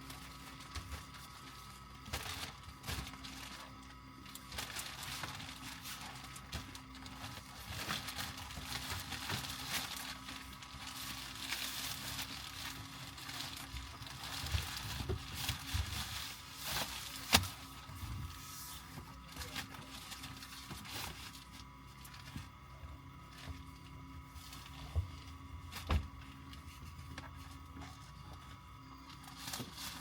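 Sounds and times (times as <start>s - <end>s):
rustling of items handled: 0.0s - 30.0s.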